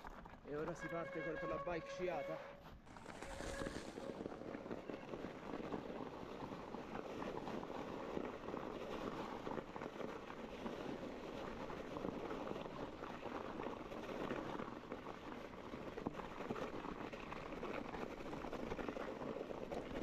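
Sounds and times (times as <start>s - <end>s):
bike tyres rolling over snow: 0.0s - 20.0s.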